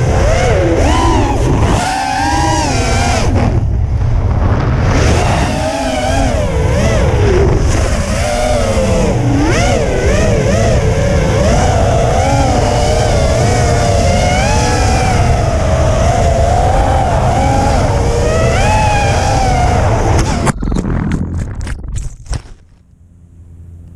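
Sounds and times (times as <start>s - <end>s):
wind rumble on microphone: 0.0s - 22.7s
drone motors whining: 0.0s - 23.6s.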